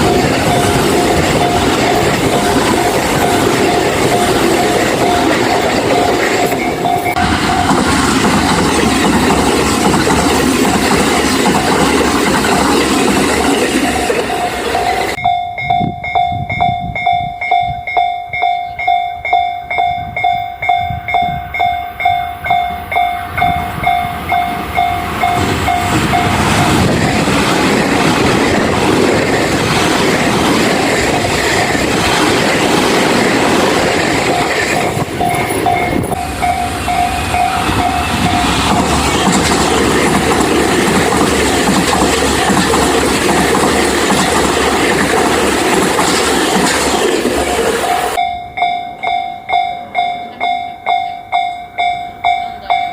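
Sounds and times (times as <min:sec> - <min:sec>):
level-crossing warning bell dinging: 0:00.0 - 0:52.9
train rumble and wheel noise: 0:00.0 - 0:52.9.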